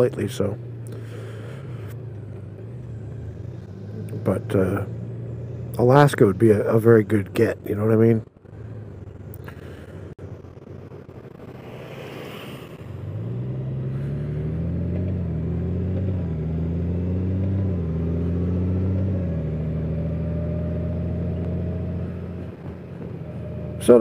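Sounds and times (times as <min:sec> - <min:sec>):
motorcycle engine accelerating: 0:00.0 - 0:24.0
wind and road noise: 0:00.0 - 0:24.0.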